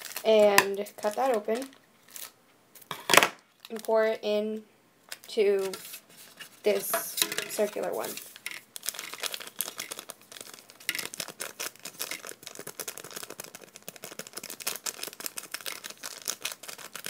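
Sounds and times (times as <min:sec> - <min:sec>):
plastic packet crinkling: 0:00.0 - 0:02.4, 0:03.5 - 0:04.1, 0:05.1 - 0:17.0.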